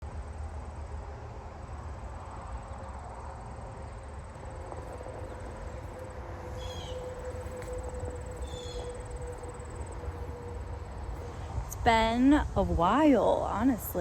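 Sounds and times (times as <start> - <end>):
distant vehicles rumbling: 0.0 - 14.0
faint high whine: 0.1 - 14.0.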